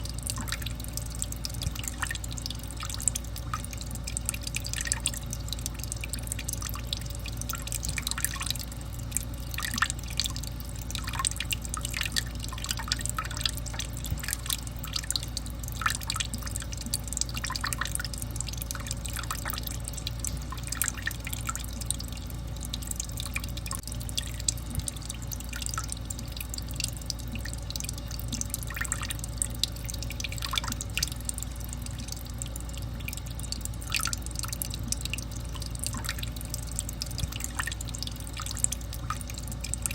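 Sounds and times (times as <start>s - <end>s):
steady low hum: 0.0s - 39.9s
water dripping: 0.0s - 39.9s.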